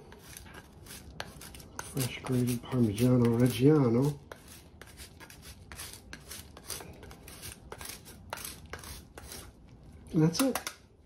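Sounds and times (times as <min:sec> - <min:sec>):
cheese grating on metal grater: 0:00.0 - 0:09.6.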